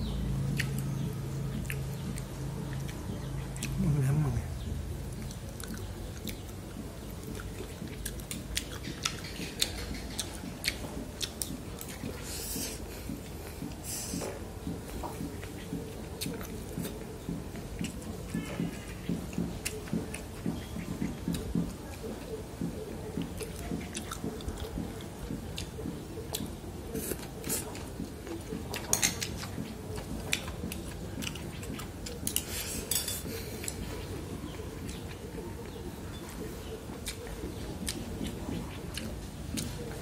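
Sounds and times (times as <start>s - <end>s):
man chewing: 0.0s - 40.0s.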